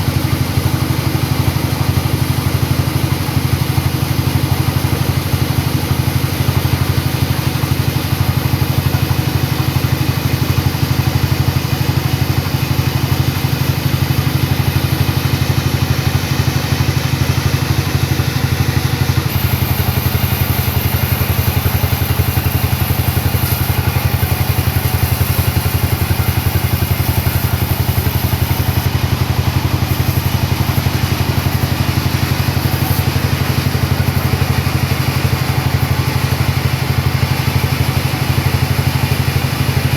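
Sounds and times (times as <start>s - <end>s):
sawmill engine droning: 0.0s - 39.9s.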